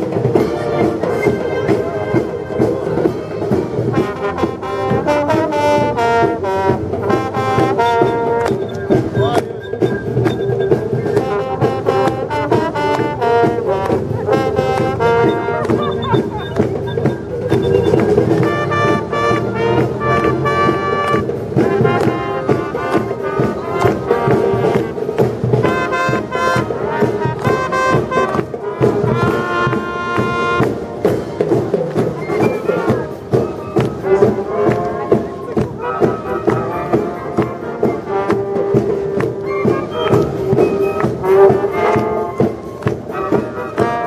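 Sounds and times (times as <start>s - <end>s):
brass band playing: 0.0s - 44.0s.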